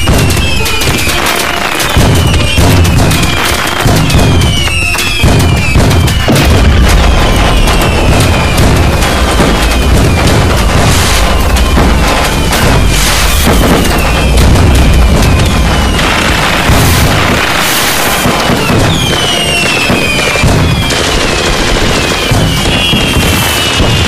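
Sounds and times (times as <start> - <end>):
firework whistles falling in pitch: 0.0 - 24.0
fireworks crackling and booming: 0.0 - 24.0.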